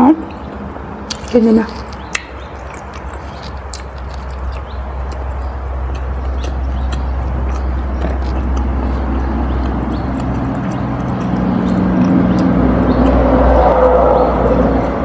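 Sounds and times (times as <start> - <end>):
low hum: 0.0 - 15.0
chewing food: 0.2 - 15.0.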